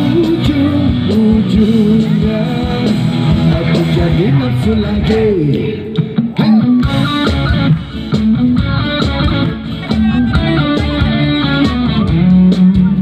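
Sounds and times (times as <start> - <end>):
electric guitar: 0.0 - 13.0
live band playing: 0.0 - 13.0.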